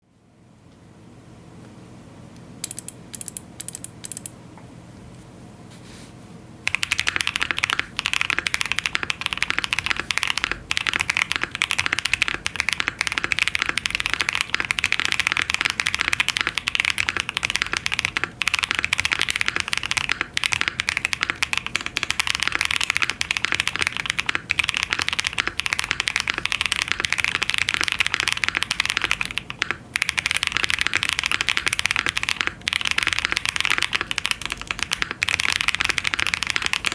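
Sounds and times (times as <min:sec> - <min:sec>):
mechanical keyboard typing: 0:02.6 - 0:04.4, 0:06.7 - 0:36.9.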